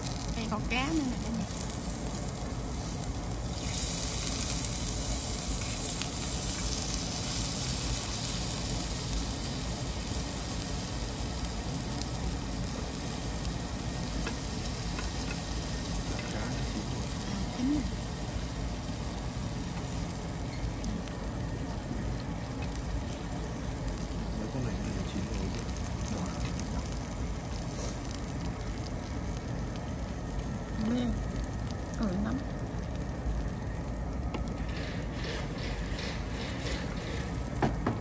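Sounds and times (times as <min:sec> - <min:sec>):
food sizzling on a grill: 0:00.0 - 0:38.0.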